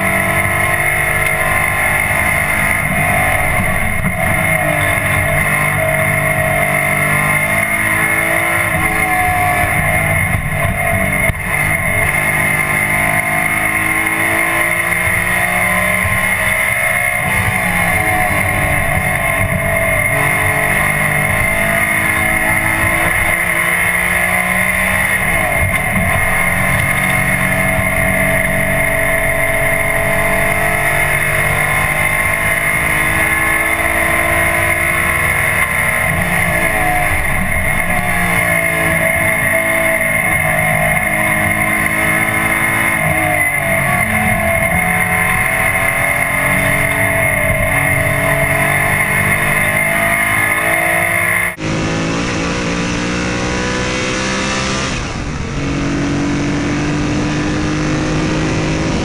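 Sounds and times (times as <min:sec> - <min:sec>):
steady high whine: 0:00.0 - 0:51.6
race car engine from cabin: 0:00.0 - 0:59.0.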